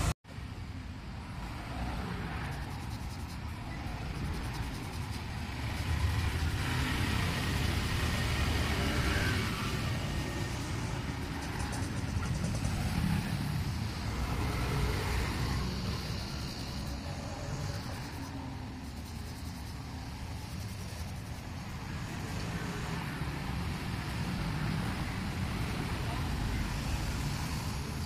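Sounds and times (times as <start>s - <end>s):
low rumble of motor vehicles: 0.0s - 28.0s.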